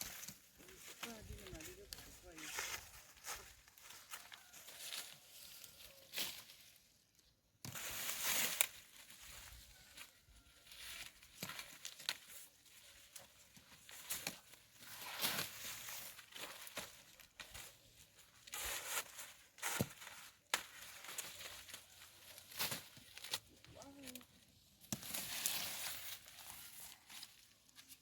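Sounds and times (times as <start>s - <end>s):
dry leaves and husks rustling: 0.0s - 28.0s.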